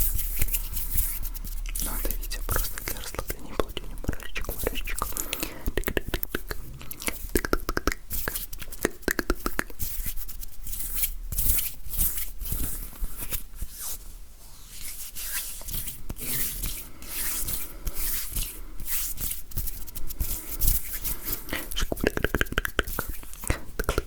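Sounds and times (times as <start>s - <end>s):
hands rubbing together: 0.0s - 14.0s, 14.7s - 24.0s.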